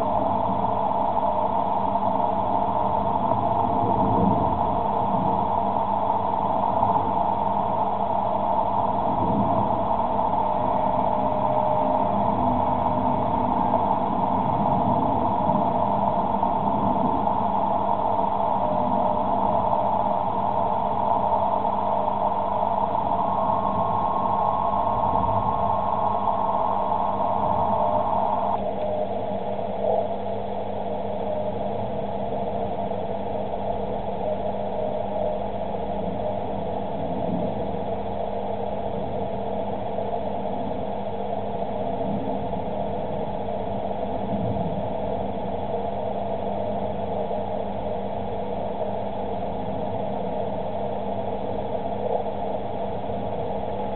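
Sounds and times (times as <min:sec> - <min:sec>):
low hum: 0:00.0 - 0:53.9
shortwave receiver hiss: 0:00.0 - 0:53.9.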